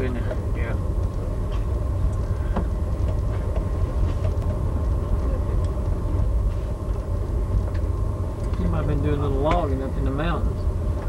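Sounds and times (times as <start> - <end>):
train low rumble on track: 0.0 - 11.0.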